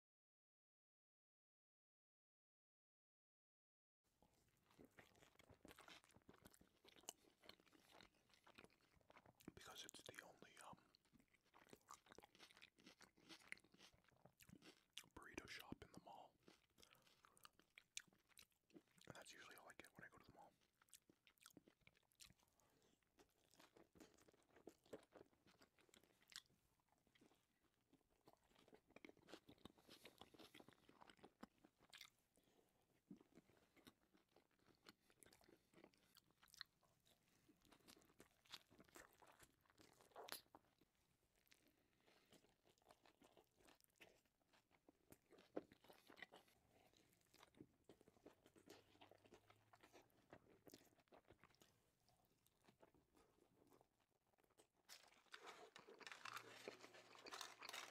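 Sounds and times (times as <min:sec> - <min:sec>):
crunchy chewing close up: 0:04.6 - 0:57.9.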